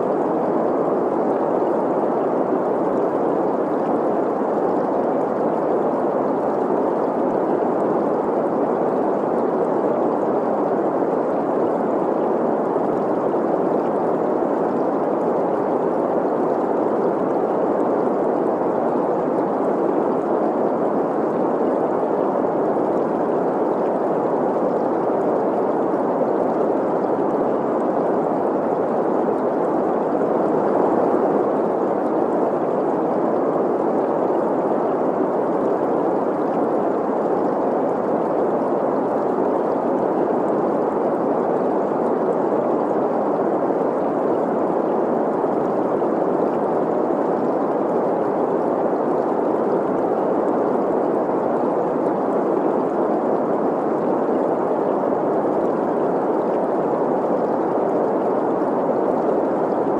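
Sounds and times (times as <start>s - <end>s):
steady green noise hiss: 0.0s - 59.9s.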